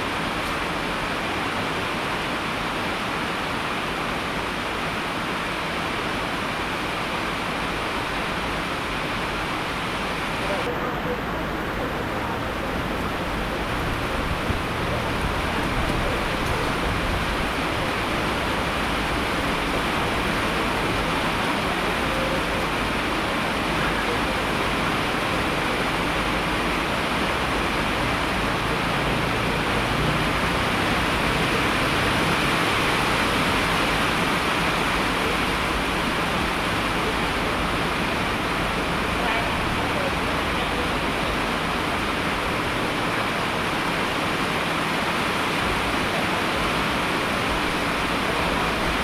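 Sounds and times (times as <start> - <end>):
heavy rain hiss: 0.0 - 49.0.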